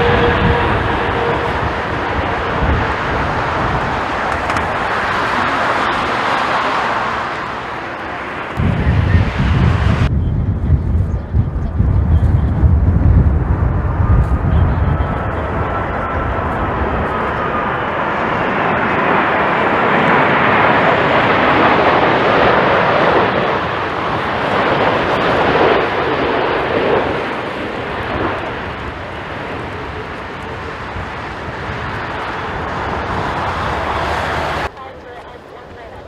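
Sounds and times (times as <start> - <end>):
jet engines passing close by: 0.0 - 36.0.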